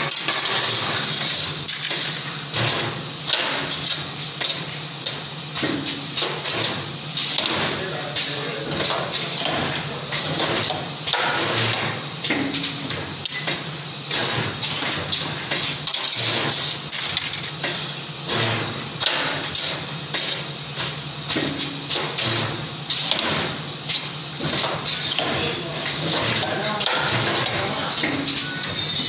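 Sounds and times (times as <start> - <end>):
sharp mechanical clacks: 0.0 - 28.5
low machine hum: 0.0 - 29.0
pneumatic cylinders clicking and hissing: 0.0 - 29.0.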